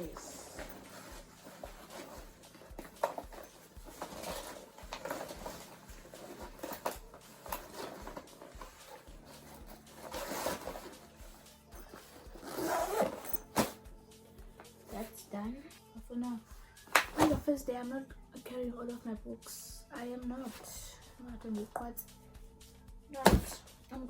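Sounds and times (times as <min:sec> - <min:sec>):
soft background music with beat: 0:00.0 - 0:24.0.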